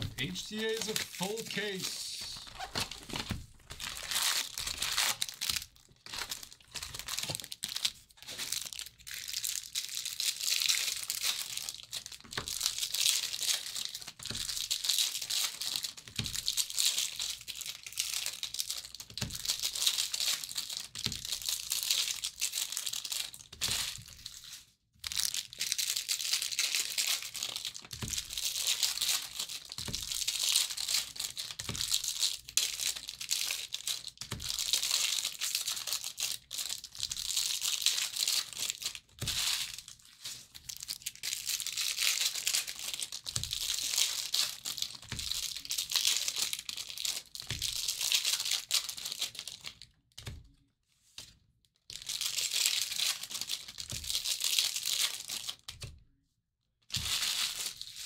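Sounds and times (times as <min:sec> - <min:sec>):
foil wrappers crinkling and tearing: 0:00.0 - 0:49.8, 0:51.9 - 0:55.7, 0:56.9 - 0:58.0.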